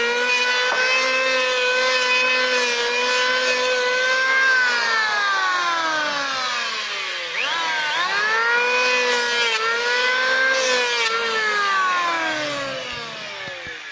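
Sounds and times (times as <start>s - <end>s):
electric wood planer whining: 0.0s - 13.9s.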